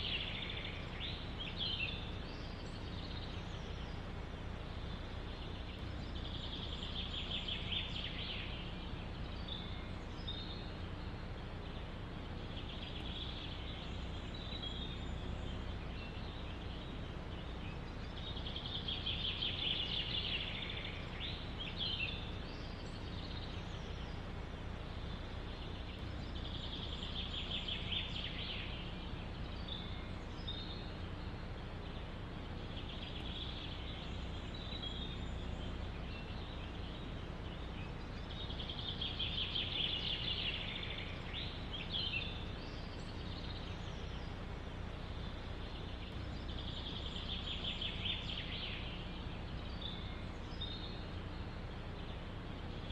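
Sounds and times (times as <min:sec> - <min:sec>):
forest ambience: 0:00.0 - 0:52.9
songbird trilling: 0:00.0 - 0:52.9.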